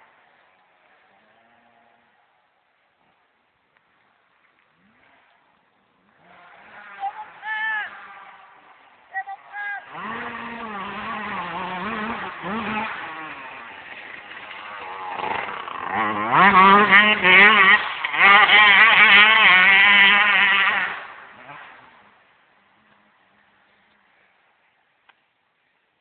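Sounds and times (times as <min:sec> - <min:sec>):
dirt bike engine revving: 0:00.0 - 0:02.4, 0:04.7 - 0:23.6.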